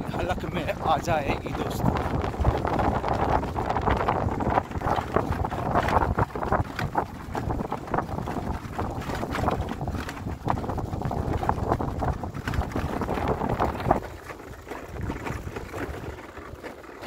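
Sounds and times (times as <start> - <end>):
knocks and rattles: 0.0 - 17.0
wind buffeting microphone: 0.0 - 17.0.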